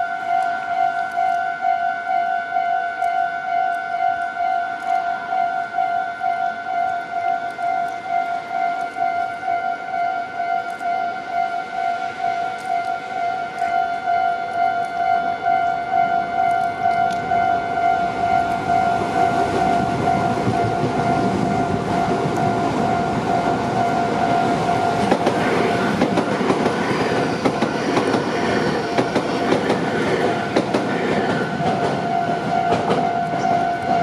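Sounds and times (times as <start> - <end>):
level-crossing alarm ringing: 0.0 - 34.0
electric train running noise: 3.0 - 34.0
wheels clicking over rail joints: 3.0 - 34.0.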